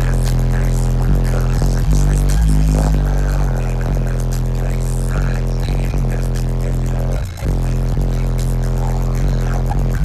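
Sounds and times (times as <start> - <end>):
loud bass-heavy music from subwoofers: 0.0 - 10.0.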